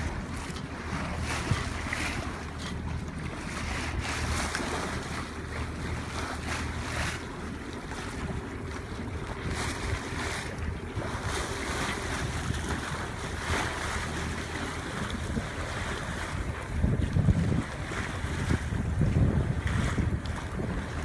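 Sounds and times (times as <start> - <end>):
boat engine low drone: 0.0 - 21.0
water splashing along hull: 0.0 - 21.0
wind buffeting microphone: 0.0 - 21.0.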